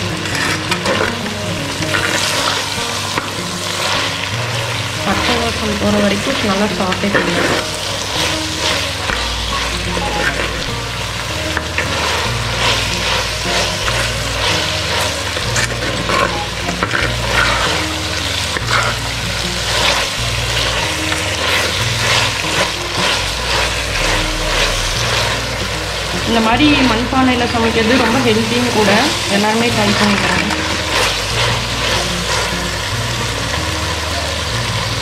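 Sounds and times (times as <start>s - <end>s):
metal ladle scraping pot: 0.0s - 27.1s, 27.9s - 33.0s
food sizzling in hot oil: 0.0s - 35.0s
slow low background tune: 0.0s - 35.0s.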